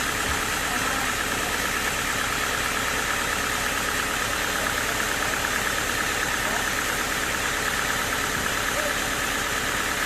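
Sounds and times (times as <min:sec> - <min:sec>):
sawmill machinery running: 0:00.0 - 0:10.0.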